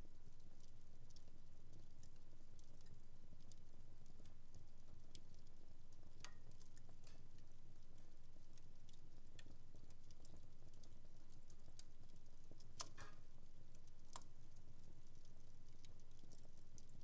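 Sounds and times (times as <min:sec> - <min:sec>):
wood fire crackling: 0:00.2 - 0:17.0.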